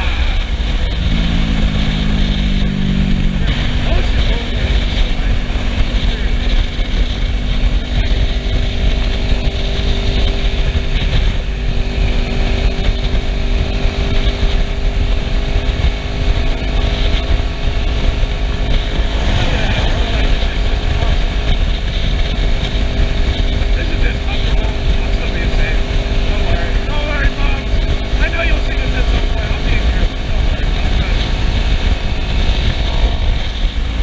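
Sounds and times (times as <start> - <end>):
motorcycle engine cruising: 0.0 - 34.0
wind rush on microphone: 0.0 - 34.0.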